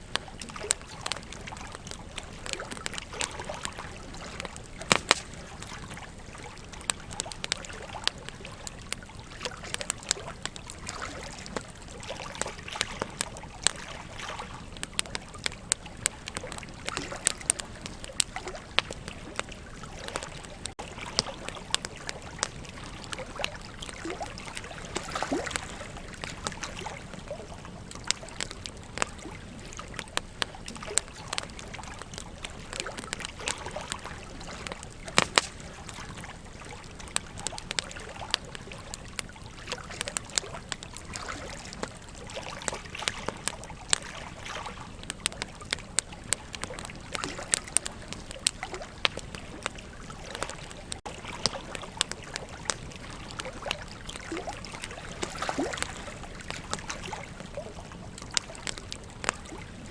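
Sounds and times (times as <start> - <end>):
campfire crackling: 0.0 - 59.9
river trickling: 0.0 - 59.9.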